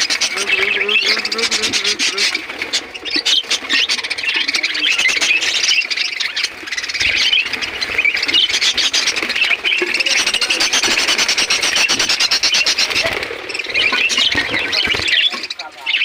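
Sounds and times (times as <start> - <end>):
budgerigars chattering and squawking: 0.0 - 16.0.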